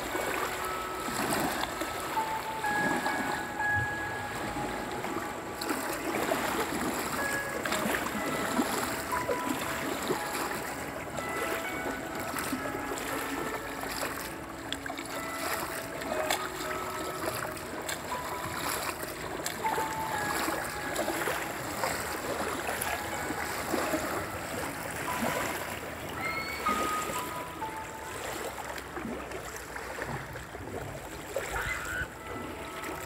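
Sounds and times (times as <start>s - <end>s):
light water splashes: 0.0s - 33.0s
small waves lapping on sand: 0.0s - 33.0s.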